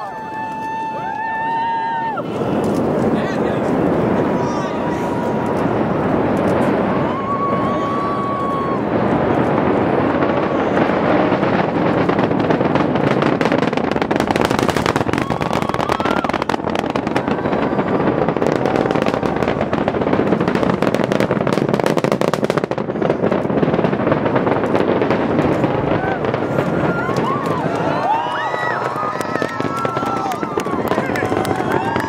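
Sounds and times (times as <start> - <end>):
distant rocket launch roar: 0.0 - 32.0.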